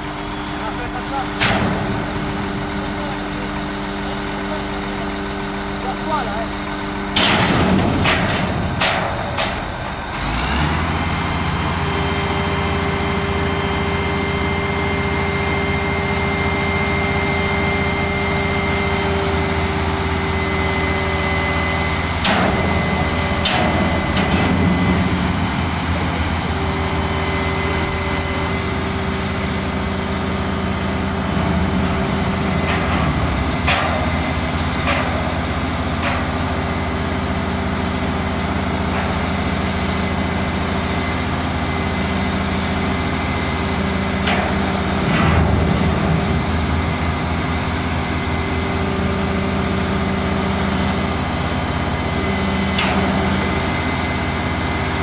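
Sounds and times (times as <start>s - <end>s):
truck engine revving: 0.4s - 18.0s, 20.9s - 55.0s.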